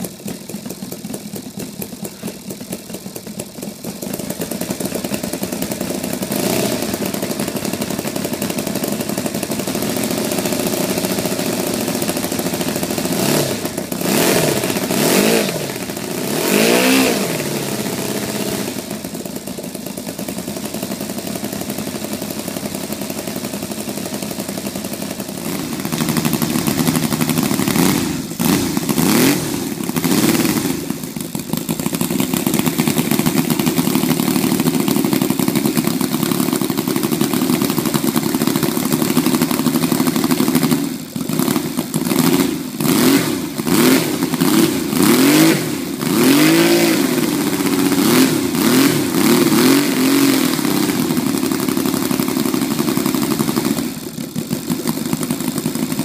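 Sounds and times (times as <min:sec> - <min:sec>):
model aircraft engine revving: 0:03.9 - 0:56.0.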